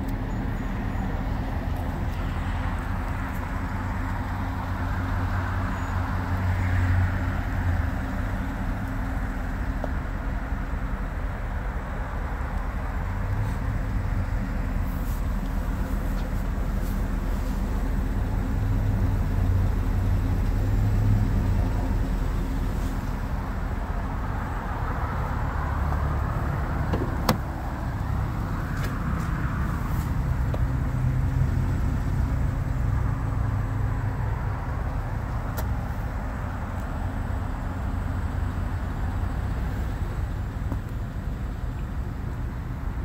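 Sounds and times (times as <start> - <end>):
vehicle rumble: 0.0 - 43.0.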